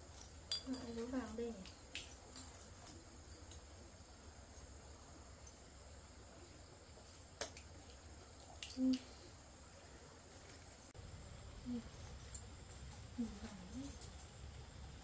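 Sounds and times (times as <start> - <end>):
faint insect chirring: 0.0 - 15.0.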